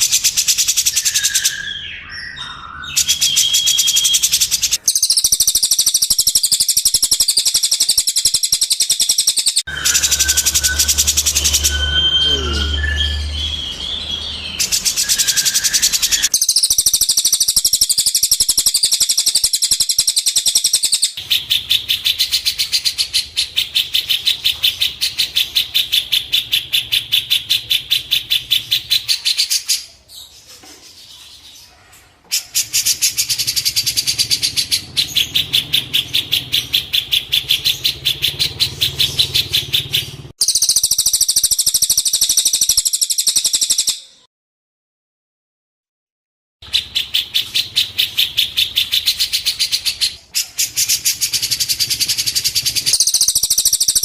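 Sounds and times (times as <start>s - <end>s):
songbird chirping rapidly: 0.0s - 44.3s, 46.6s - 54.0s.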